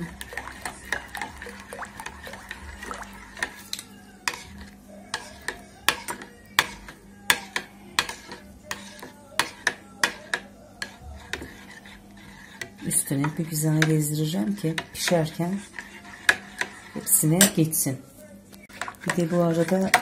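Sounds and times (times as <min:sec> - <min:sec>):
spoon whisking sauce: 0:00.0 - 0:20.0.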